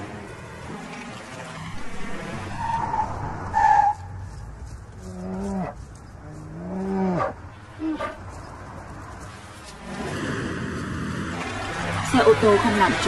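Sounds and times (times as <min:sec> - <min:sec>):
car tyres rushing on road: 0:00.0 - 0:13.0.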